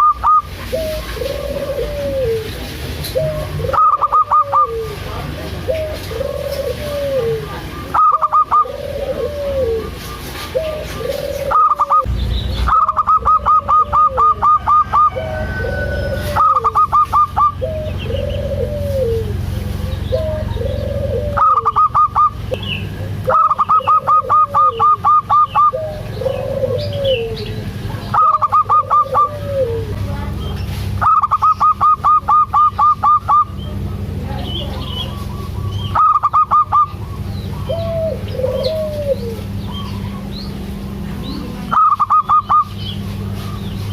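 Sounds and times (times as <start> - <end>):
dove cooing: 0.0 - 12.1, 12.7 - 30.0, 30.9 - 43.8.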